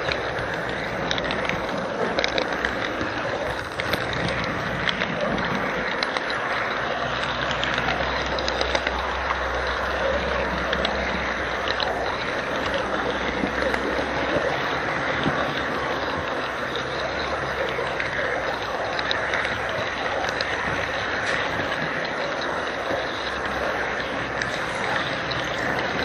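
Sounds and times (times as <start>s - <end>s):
clicks from track: 0.0s - 26.0s
model train running: 0.0s - 26.0s.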